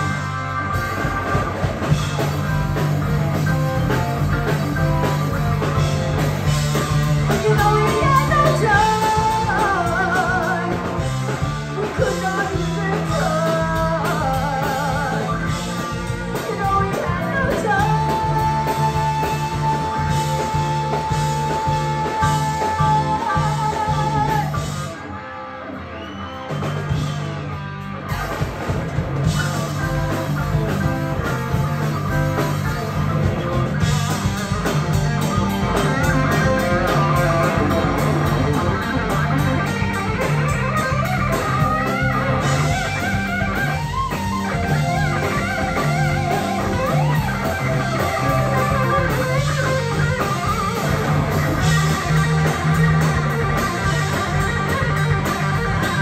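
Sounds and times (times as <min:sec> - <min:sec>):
electric guitar lead bends: 0:00.0 - 0:56.0
live rock band playing: 0:00.0 - 0:56.0.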